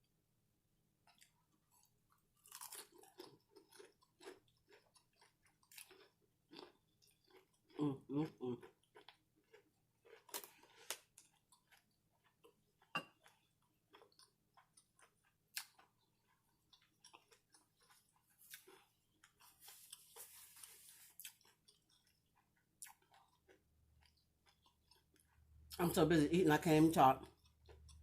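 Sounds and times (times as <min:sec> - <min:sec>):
chewing and crunching food: 0:01.0 - 0:28.0.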